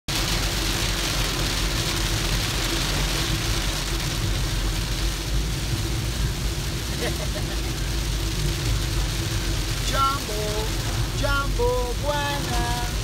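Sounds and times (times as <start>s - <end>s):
engine and tyres on wet road: 0.1s - 13.0s
rain hissing: 0.1s - 13.0s.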